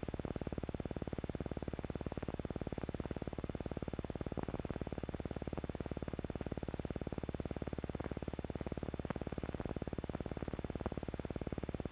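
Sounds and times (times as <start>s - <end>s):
film soundtrack hum with flutter: 0.0s - 11.9s.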